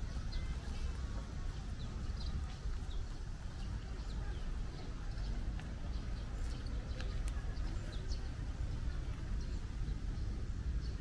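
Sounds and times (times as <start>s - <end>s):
light footsteps: 0.0s - 10.1s.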